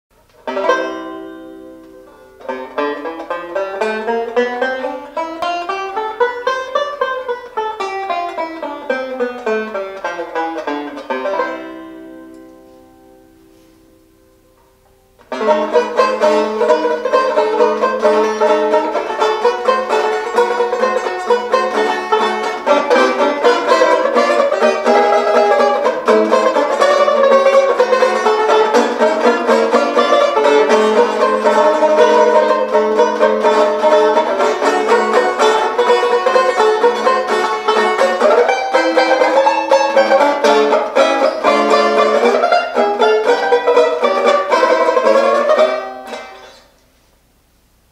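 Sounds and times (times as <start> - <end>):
banjo picking and strumming: 0.1 - 46.8.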